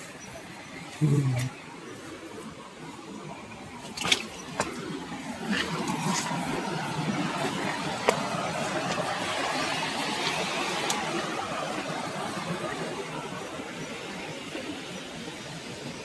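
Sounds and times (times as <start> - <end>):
flowing water: 0.0 - 16.0.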